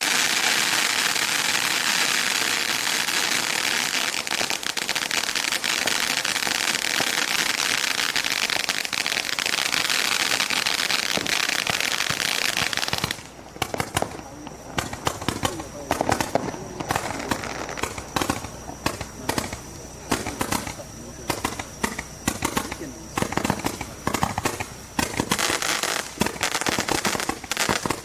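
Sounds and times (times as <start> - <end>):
firework hissing: 0.0 - 28.0
rapid crackling firework pops: 0.0 - 28.0.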